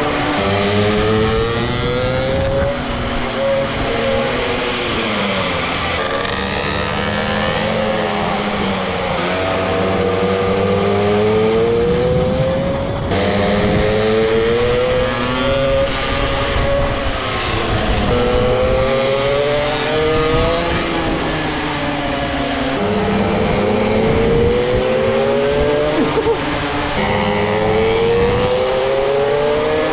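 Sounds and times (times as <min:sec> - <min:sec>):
mini motorbike engines revving: 0:00.0 - 0:29.9.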